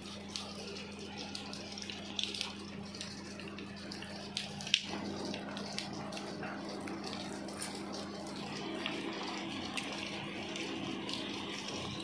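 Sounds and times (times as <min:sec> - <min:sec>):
low steady hum: 0:00.0 - 0:12.0
steady rain hiss: 0:00.0 - 0:12.0.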